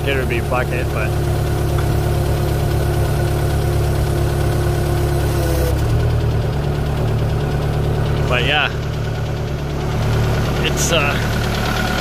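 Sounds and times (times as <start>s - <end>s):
loader engine idling: 0.0s - 12.0s.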